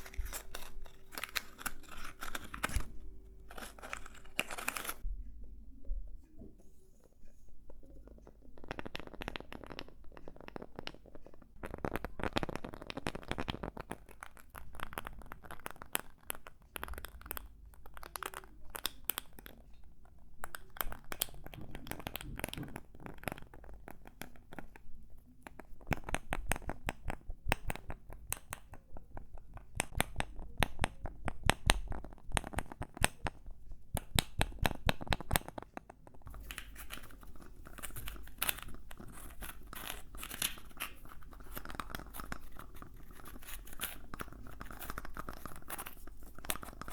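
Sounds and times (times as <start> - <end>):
scratching: 0.0 - 5.1, 6.9 - 46.9.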